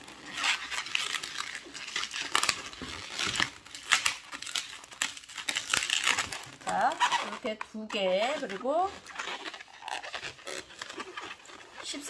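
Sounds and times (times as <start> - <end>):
balloon rubber squeaking: 0.0 - 12.0.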